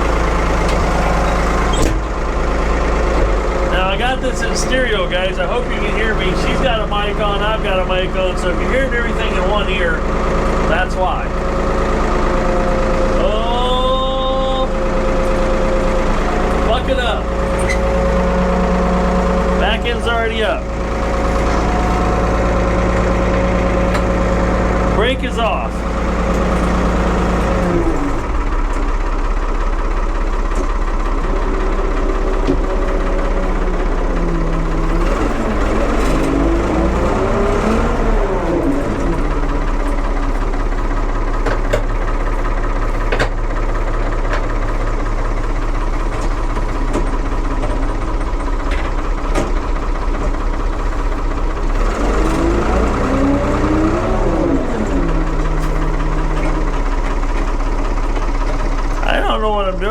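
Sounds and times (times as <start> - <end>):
backhoe engine running and revving: 0.0 - 59.9.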